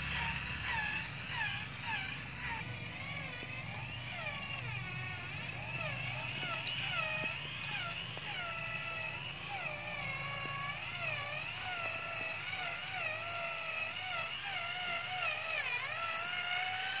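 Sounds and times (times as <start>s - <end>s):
model truck motor whining: 0.0s - 17.0s.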